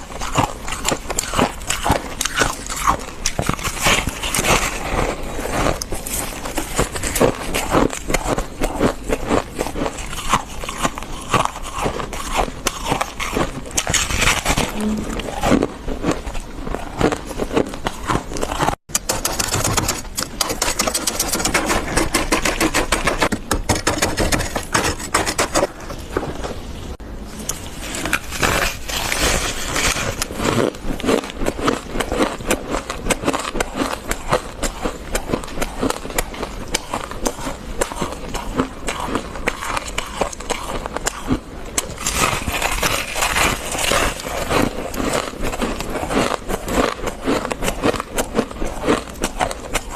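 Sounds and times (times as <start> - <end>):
freezer frost crunching: 0.0 - 49.9.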